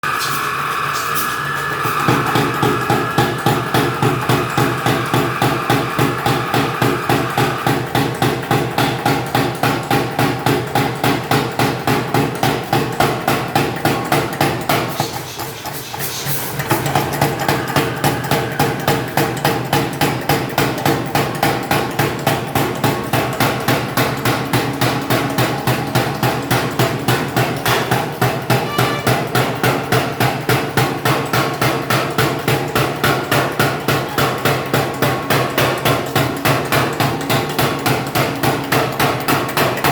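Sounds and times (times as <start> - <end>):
pneumatic forging hammer pounding: 0.1 - 39.9.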